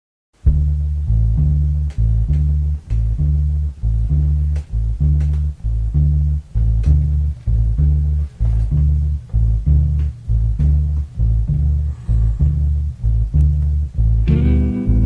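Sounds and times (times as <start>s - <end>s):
bass guitar riff: 0.4s - 15.0s.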